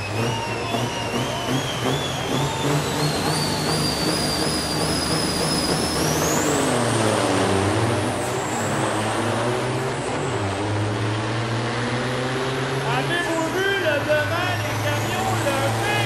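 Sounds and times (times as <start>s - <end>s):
diesel truck engines revving: 0.0s - 16.0s.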